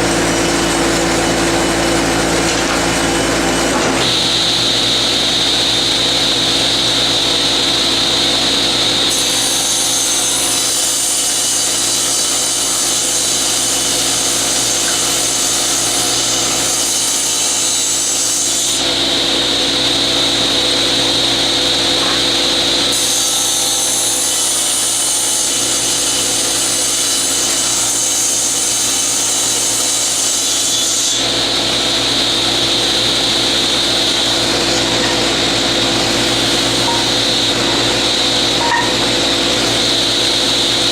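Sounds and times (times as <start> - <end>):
dust collector running: 0.0 - 40.9
table saw ripping boards: 0.0 - 40.9.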